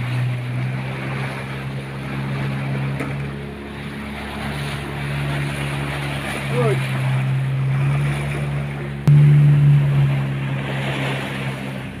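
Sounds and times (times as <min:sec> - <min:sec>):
boat engine humming: 0:00.0 - 0:12.0
water noise: 0:00.0 - 0:12.0.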